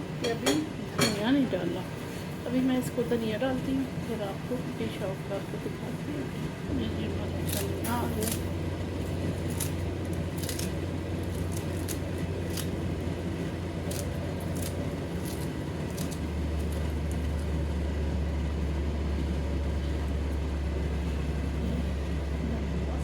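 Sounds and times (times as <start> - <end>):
steady low rumble: 3.9 - 23.0.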